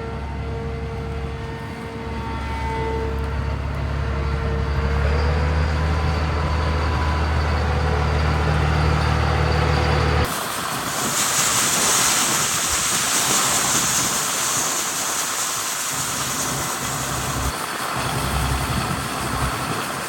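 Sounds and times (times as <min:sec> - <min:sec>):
farm machinery engine humming: 0:00.0 - 0:20.0.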